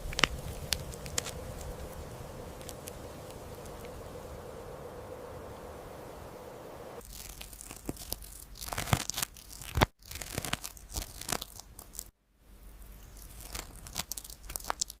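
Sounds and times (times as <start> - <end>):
crackling and rustling: 0.0 - 12.1.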